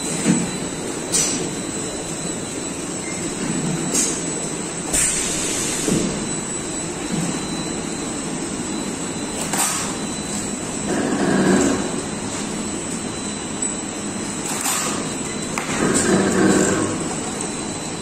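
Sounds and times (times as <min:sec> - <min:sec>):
machine humming with high whine: 0:00.0 - 0:18.0.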